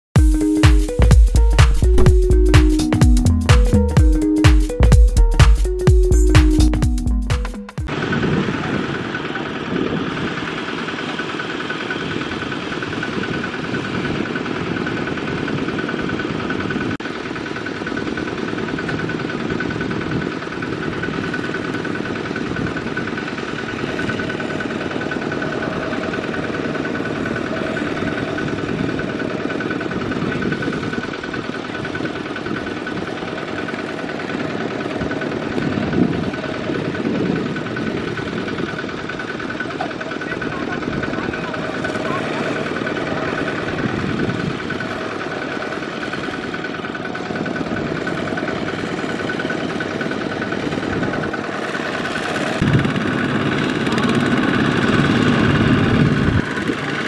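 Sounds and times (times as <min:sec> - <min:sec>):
diesel tractor engine running: 0:00.2 - 0:57.0.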